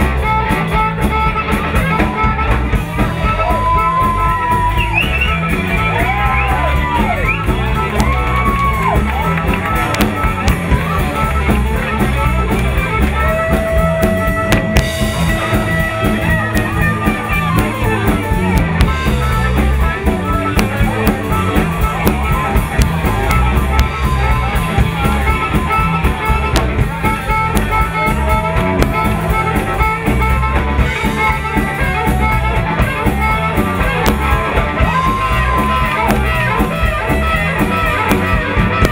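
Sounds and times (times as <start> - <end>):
electric blues band playing: 0.0 - 38.9
harmonica bending notes: 0.0 - 38.9.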